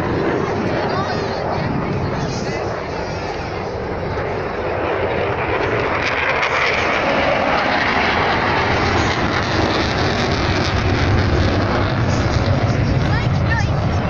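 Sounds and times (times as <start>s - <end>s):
fighter jet roaring past: 0.0s - 14.0s.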